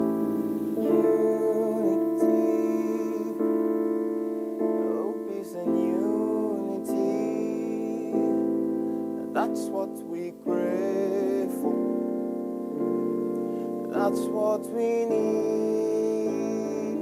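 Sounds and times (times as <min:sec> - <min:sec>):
electric keyboard chords: 0:00.0 - 0:17.0
person singing wordlessly: 0:00.0 - 0:17.0.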